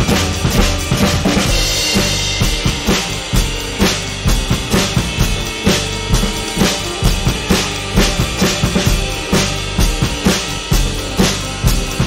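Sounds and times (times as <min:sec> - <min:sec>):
cymbal wash: 0:00.0 - 0:12.0
drum kit groove: 0:00.0 - 0:12.0.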